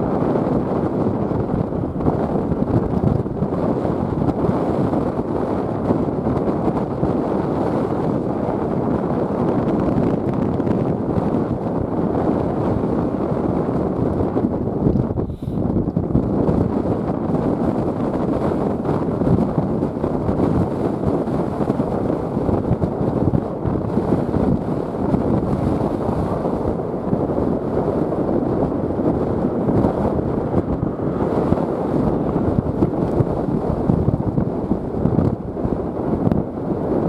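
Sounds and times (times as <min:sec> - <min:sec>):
gusty wind buffeting microphone: 0:00.0 - 0:37.0.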